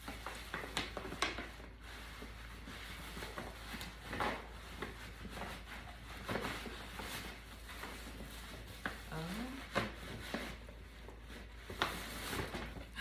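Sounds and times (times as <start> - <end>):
tissue paper and bag rustling: 0.0 - 13.0.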